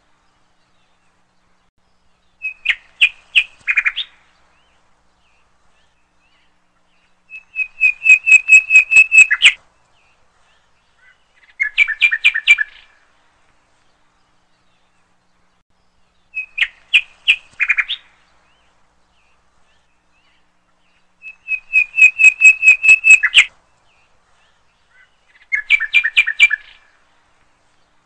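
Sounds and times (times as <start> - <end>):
bird chirping: 0.1 - 13.1, 13.7 - 28.0.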